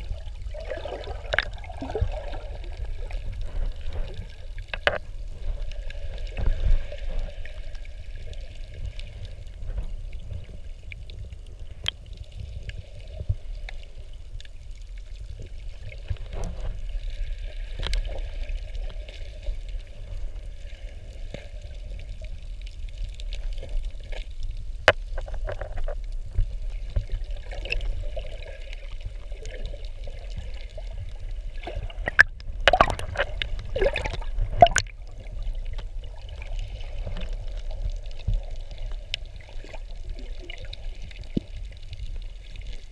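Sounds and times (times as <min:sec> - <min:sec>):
underwater clicks and crackles: 0:00.0 - 0:42.9
underwater low rumble: 0:00.0 - 0:42.9.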